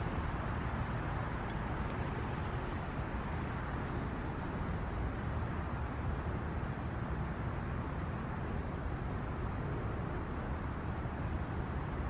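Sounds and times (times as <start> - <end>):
faint high hiss: 0.0 - 12.0.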